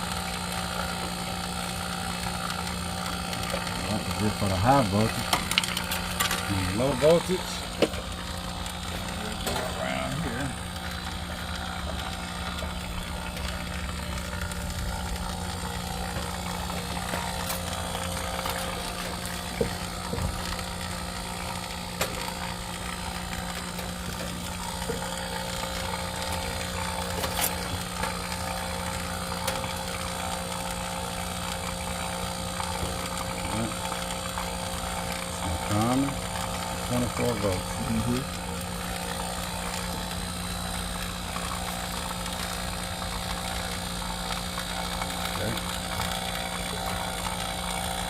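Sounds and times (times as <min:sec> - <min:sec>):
mechanical drone: 0:00.0 - 0:48.0.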